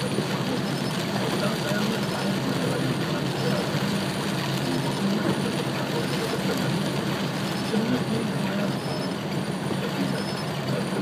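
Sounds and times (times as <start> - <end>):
heavy rain on car roof: 0.0 - 11.0
surrounding traffic: 0.0 - 11.0.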